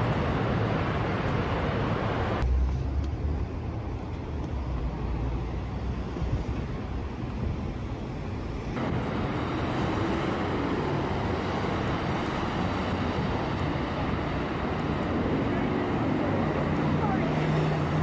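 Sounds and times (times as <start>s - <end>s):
city road traffic rumble: 0.0s - 18.0s.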